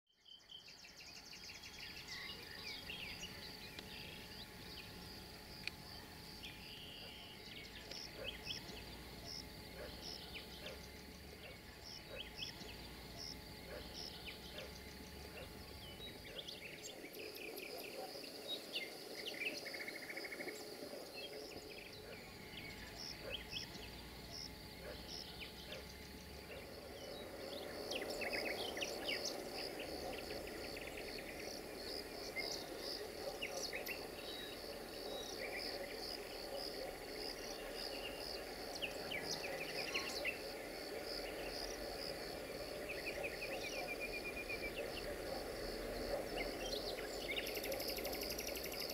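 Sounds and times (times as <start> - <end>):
cricket chirping: 0.2 - 48.9.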